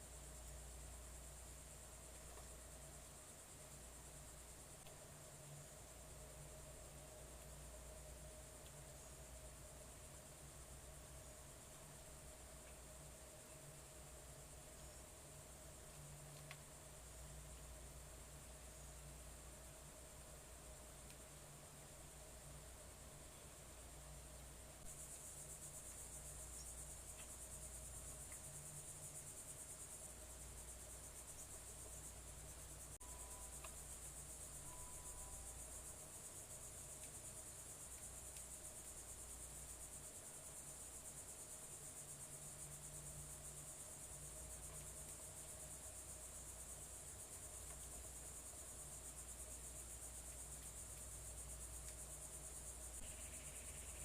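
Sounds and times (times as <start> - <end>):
crickets chirping: 0.0 - 54.0
low background hum: 0.0 - 54.0.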